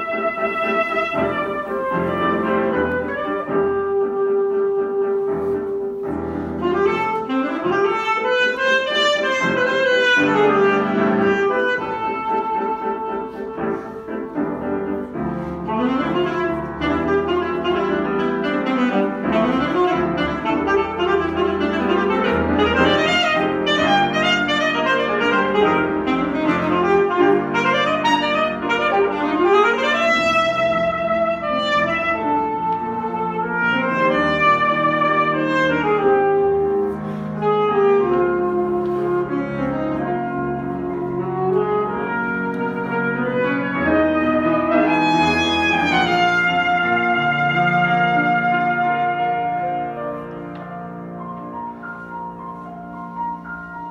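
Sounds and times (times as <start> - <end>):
alto saxophone: 0.0 - 53.9
piano chords: 0.0 - 53.9.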